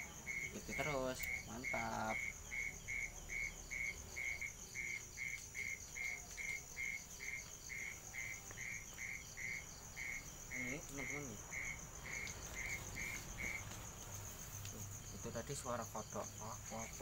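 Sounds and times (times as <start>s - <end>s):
frog calling: 0.0s - 13.8s
high-pitched insect trill: 0.0s - 17.0s.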